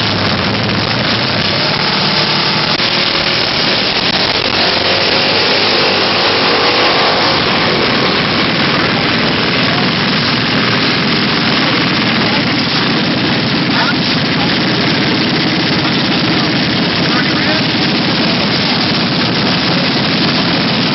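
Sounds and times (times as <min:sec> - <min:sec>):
mini bike engines running: 0:00.0 - 0:20.9
steady rushing noise: 0:00.0 - 0:20.9.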